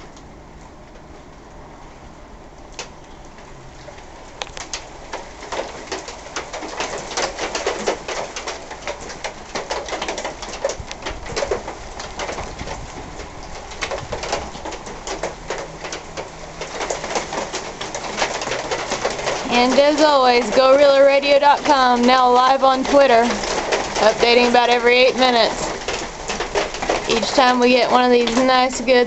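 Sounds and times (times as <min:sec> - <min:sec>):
heavy raindrops tapping: 0:02.4 - 0:29.0.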